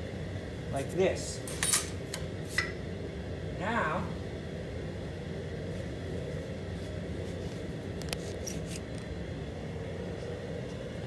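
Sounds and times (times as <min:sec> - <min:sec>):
workshop background hum: 0:00.0 - 0:11.0.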